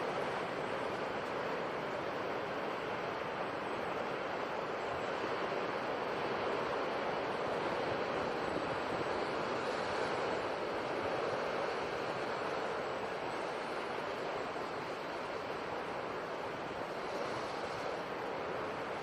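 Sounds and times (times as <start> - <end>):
sea waves and surf: 0.0 - 19.0.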